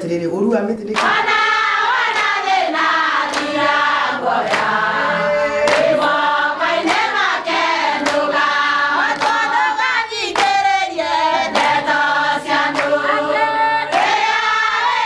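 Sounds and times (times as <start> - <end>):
hand clapping: 0.9 - 15.0
women singing in choir: 1.0 - 15.0.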